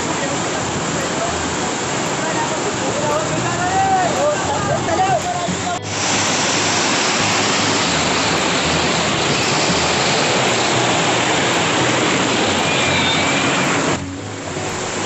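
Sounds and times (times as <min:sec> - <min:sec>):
waterfall splashing over rocks: 0:00.0 - 0:15.0.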